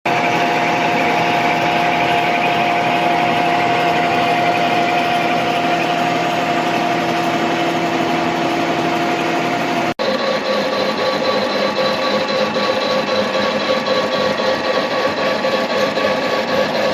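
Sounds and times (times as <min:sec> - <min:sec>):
metal cutting noise: 0:00.1 - 0:16.9
milling machine whining: 0:00.1 - 0:16.9.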